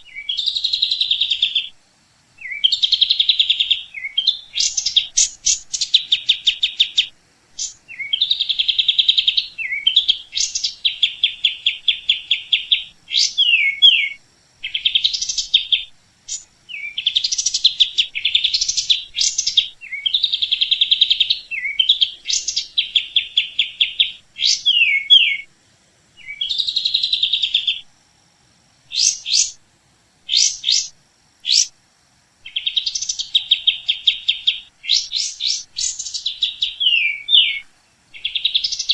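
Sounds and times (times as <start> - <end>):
songbird trilling: 0.0 - 1.8, 2.4 - 25.5, 26.2 - 27.9, 28.9 - 29.6, 30.3 - 31.8, 32.4 - 38.9.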